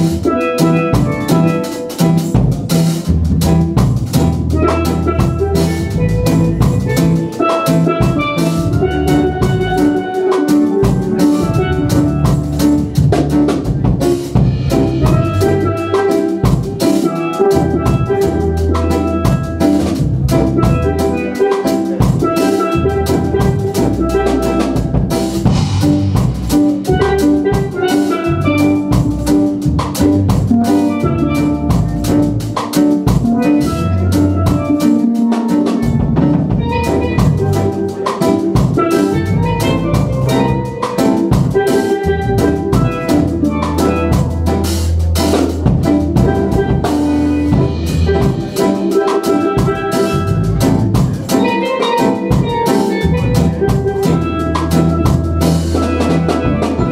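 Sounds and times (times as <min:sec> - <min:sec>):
drum kit steady beat: 0:00.0 - 0:56.9
steel pans played with sticks: 0:00.0 - 0:56.9.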